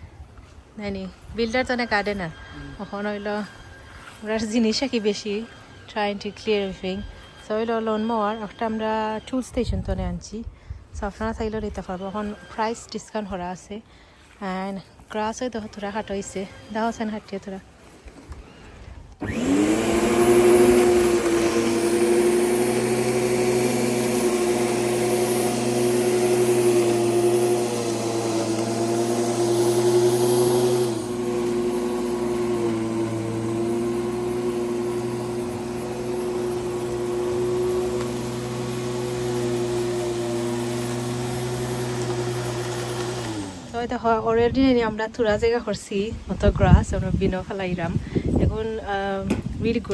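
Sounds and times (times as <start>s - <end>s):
electric lawn mower whine: 0.0s - 10.4s, 11.0s - 49.9s.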